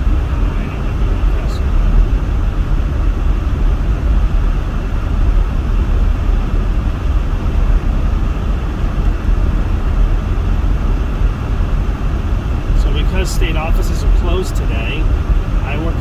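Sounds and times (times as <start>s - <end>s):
van driving on snowy road: 0.0s - 16.0s.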